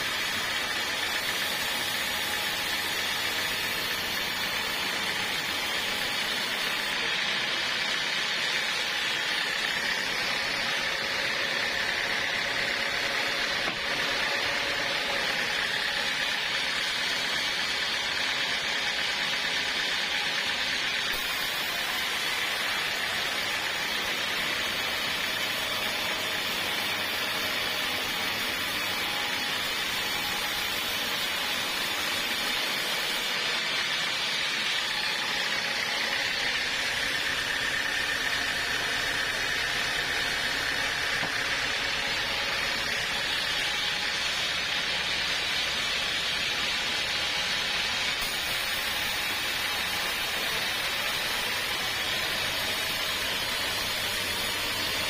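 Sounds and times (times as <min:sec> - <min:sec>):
sawmill cutting log: 0:00.0 - 0:55.0.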